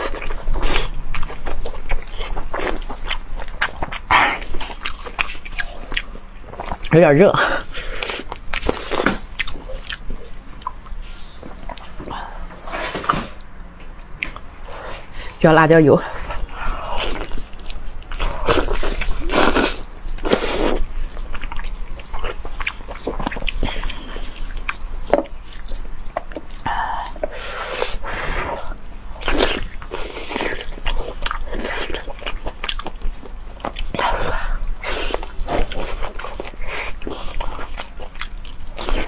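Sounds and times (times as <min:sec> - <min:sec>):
person chewing and biting meat: 0:00.0 - 0:06.9, 0:07.6 - 0:15.4, 0:16.1 - 0:39.0.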